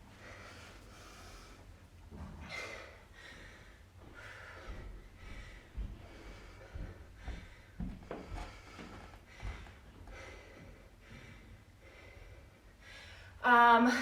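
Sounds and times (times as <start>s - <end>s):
heavy rasping breathing: 0.0s - 13.4s.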